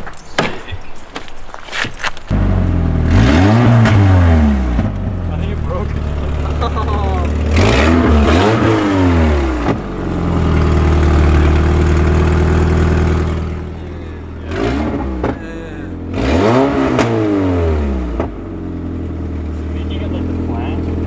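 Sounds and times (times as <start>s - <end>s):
car engine revving: 2.3s - 21.0s.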